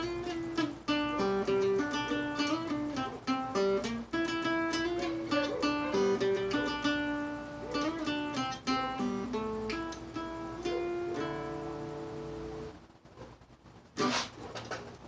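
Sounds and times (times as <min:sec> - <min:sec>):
acoustic guitar picking riff: 0:00.0 - 0:12.8, 0:14.0 - 0:14.6.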